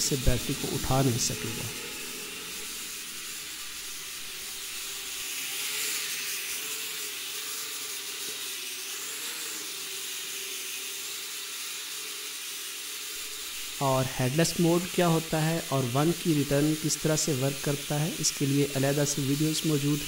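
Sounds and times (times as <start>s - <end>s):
toy quadcopter hovering: 0.0s - 20.0s.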